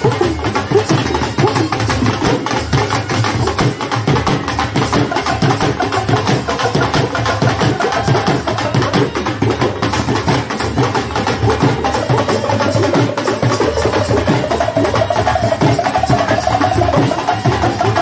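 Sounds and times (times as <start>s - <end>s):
dhol drums fast beat: 0.0s - 18.0s.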